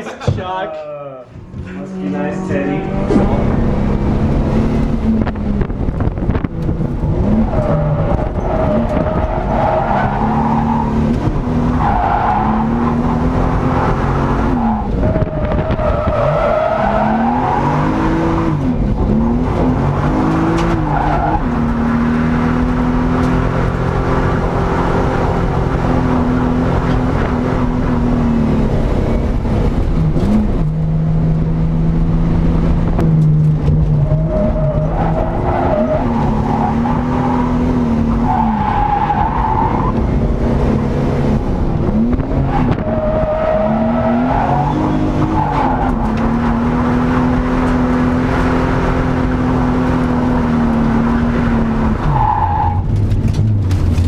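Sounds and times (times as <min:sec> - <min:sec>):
car engine revving: 0:01.5 - 0:54.0.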